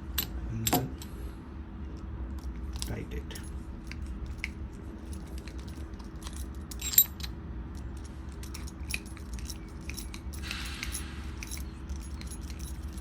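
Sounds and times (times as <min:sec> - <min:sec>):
metal collar hardware clinking: 0:00.1 - 0:01.2, 0:02.3 - 0:13.0.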